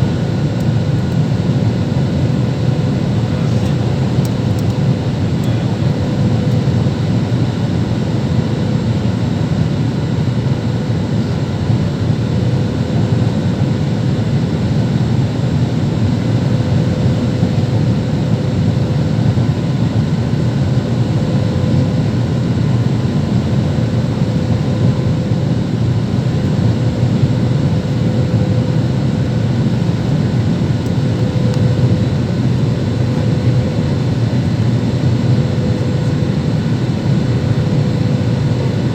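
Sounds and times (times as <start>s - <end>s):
jet airliner engines droning: 0.0s - 38.9s.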